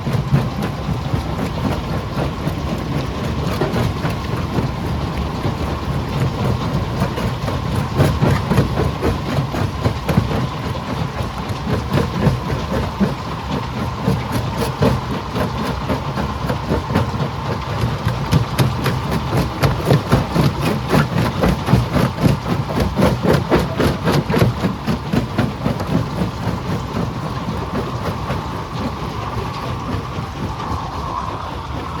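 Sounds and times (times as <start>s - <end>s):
rock rattling and knocking: 0.0s - 32.0s
stone crusher machine noise: 0.0s - 32.0s.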